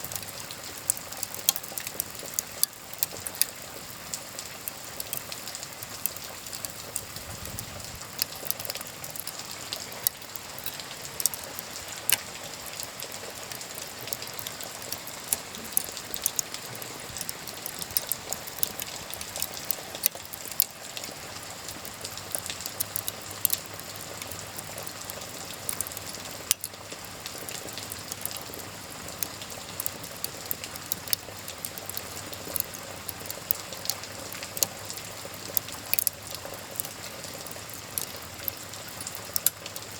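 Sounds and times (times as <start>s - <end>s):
rain hissing: 0.0s - 39.9s
wood fire crackling and popping: 0.0s - 39.9s.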